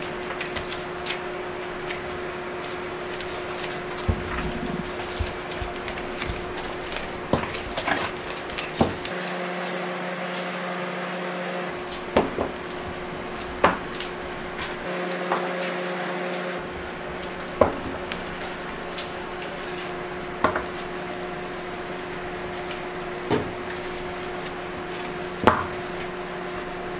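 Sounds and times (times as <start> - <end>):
machine hum: 0.0 - 26.9.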